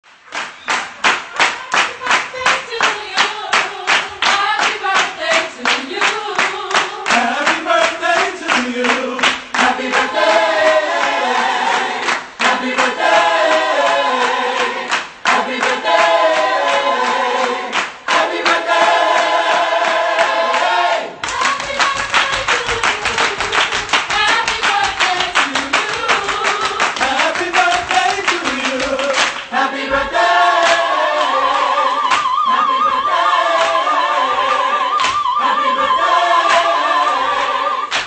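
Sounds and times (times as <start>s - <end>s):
hand clapping on a beat: 0.0s - 31.4s, 32.0s - 32.5s, 33.5s - 37.3s
choir singing: 1.9s - 38.0s.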